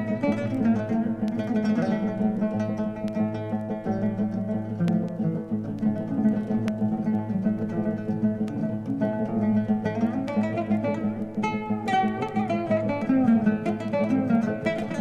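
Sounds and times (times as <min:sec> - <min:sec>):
plucked string instrumental music: 0:00.0 - 0:15.0.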